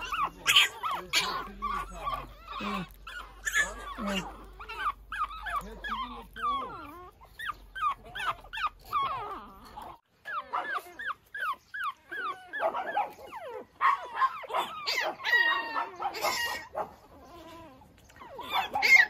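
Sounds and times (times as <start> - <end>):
puppies whining: 0.0 - 19.0.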